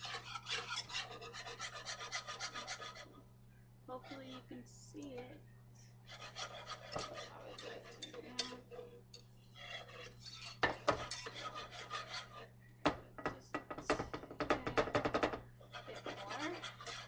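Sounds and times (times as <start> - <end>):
whisk clicking and scraping pan: 0.0 - 3.2, 4.0 - 4.5, 6.1 - 17.0
steady low hum: 0.0 - 17.0.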